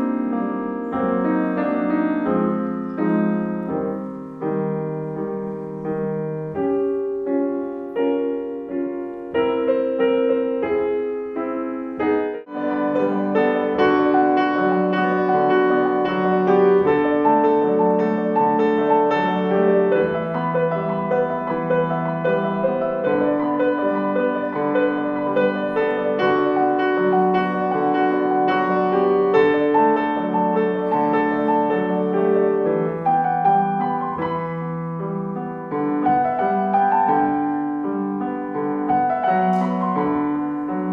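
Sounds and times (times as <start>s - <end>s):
solo grand piano playing: 0.0s - 40.9s.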